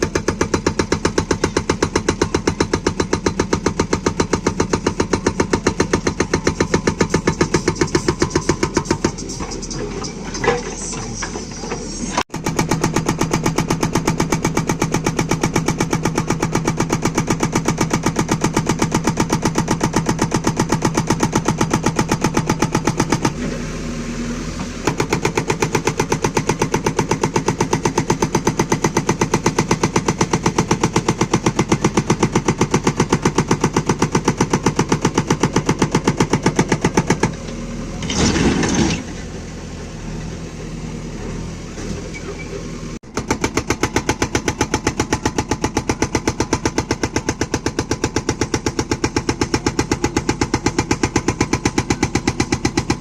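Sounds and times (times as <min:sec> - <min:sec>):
hydraulic rock breaker hammering: 0:00.0 - 0:23.6, 0:24.8 - 0:39.2, 0:43.0 - 0:53.0
diesel engine: 0:00.0 - 0:53.0.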